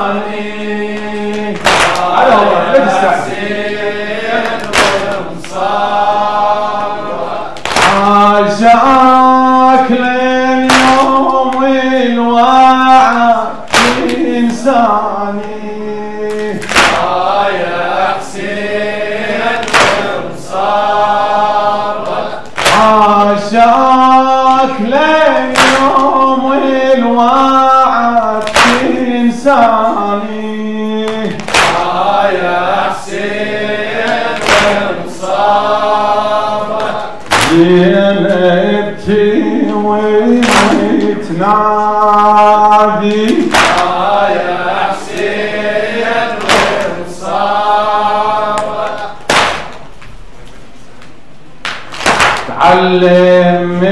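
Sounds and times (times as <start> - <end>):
men chanting: 0.0 - 49.3, 52.5 - 53.9.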